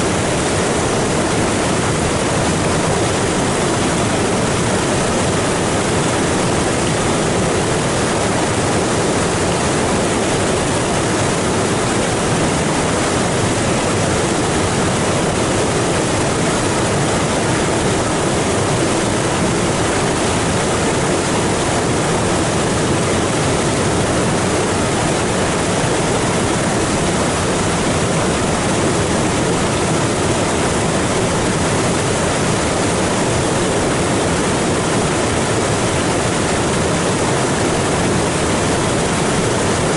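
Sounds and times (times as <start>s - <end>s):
rushing water over waterfall: 0.0s - 39.9s.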